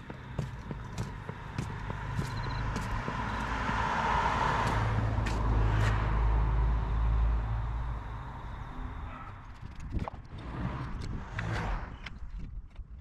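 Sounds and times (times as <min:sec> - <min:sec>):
car passing: 0:00.0 - 0:09.4, 0:10.2 - 0:12.3.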